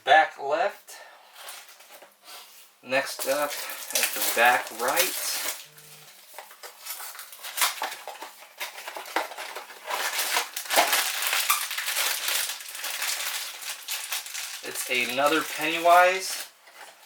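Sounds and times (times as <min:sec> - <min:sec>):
packaging crinkling: 0:03.1 - 0:17.0.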